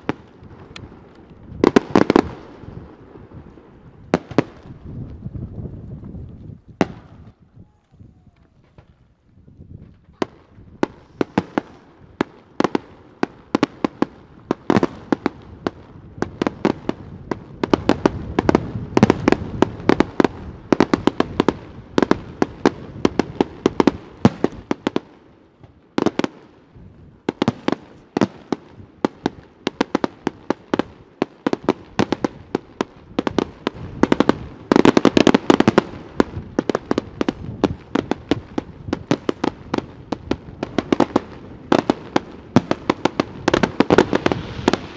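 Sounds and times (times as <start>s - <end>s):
fireworks bursting bangs: 0.0s - 44.9s.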